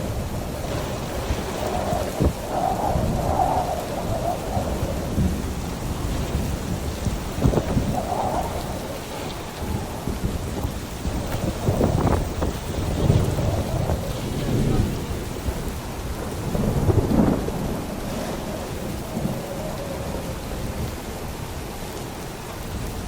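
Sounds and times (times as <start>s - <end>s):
low rumbling surges: 0.0s - 23.0s
steady rain falling: 0.0s - 23.0s.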